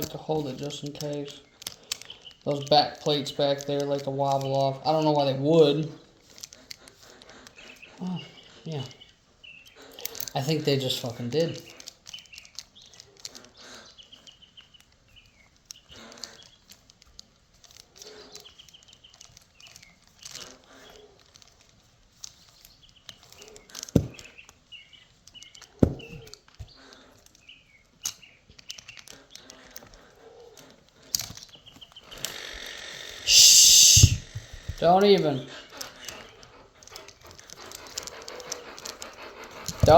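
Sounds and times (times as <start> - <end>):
small birds chirping: 0.0 - 39.9
tools being handled: 0.0 - 39.9.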